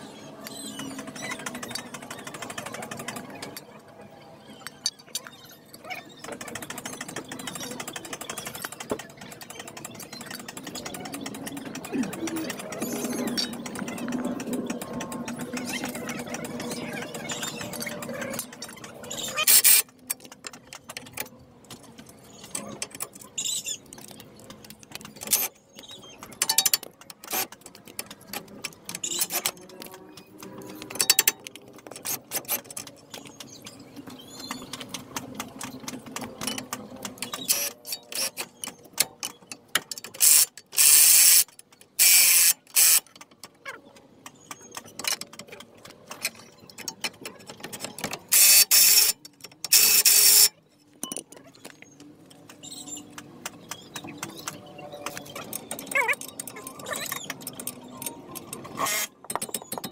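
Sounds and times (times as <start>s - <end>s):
tools clicking on metal: 4.6s - 59.9s.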